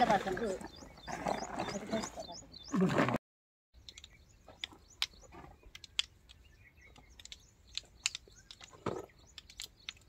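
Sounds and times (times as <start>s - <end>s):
small birds chirping faintly: 0.0s - 3.0s, 3.8s - 10.0s.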